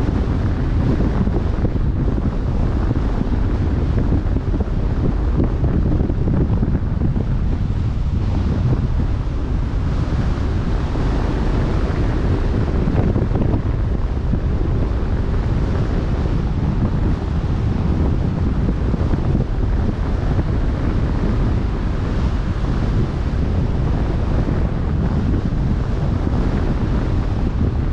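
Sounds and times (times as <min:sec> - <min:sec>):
choppy sea wash: 0:00.0 - 0:27.9
wind buffeting microphone: 0:00.0 - 0:27.9.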